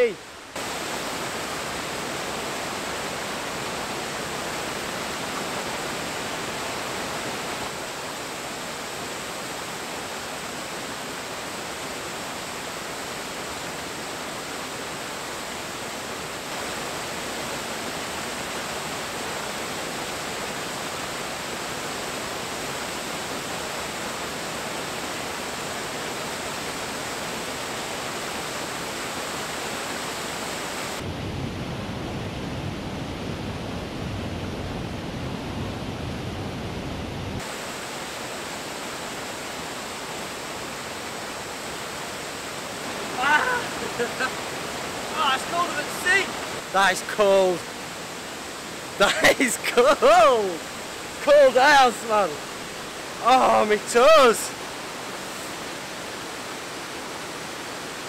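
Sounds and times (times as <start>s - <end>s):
waterfall rushing into pool: 0.0s - 58.0s.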